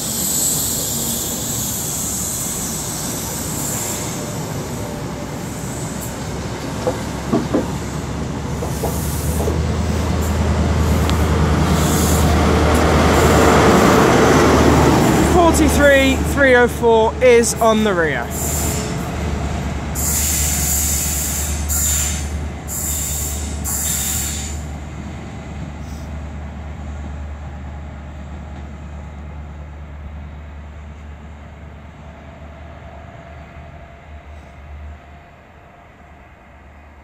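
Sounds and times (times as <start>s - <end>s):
diesel train engine droning: 0.0s - 37.0s
train coaches rolling past: 0.0s - 37.0s.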